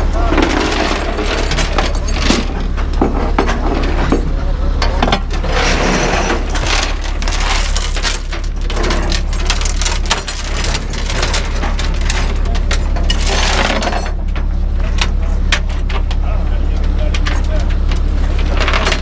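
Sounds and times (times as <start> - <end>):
chain clanking on steel deck: 0.3 - 16.1, 18.3 - 19.0.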